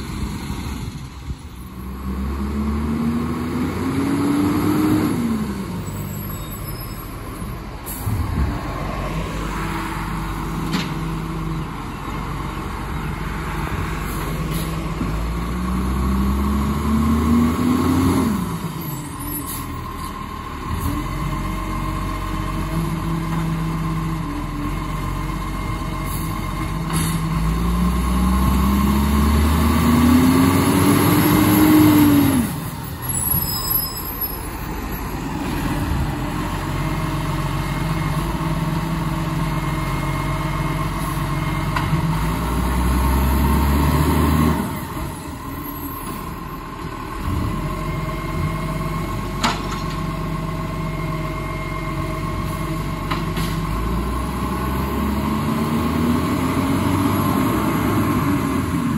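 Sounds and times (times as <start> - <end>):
garbage truck diesel engine revving: 0.0 - 6.1, 7.9 - 58.9.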